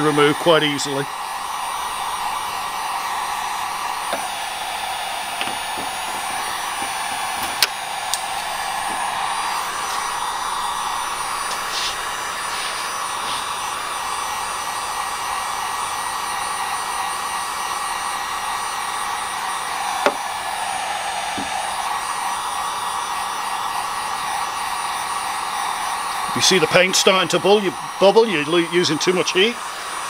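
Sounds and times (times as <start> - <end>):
heat gun blowing hot air: 0.0 - 30.0.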